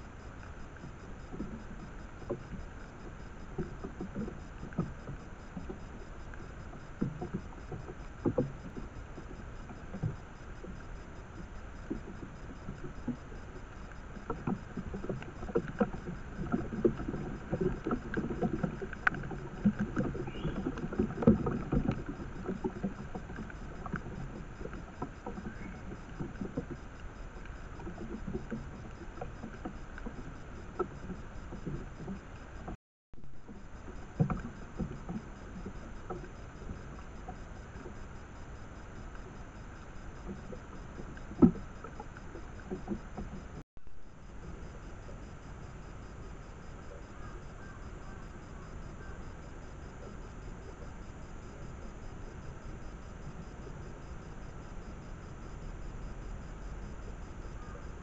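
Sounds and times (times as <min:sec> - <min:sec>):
microphone hiss: 0:00.0 - 0:58.0.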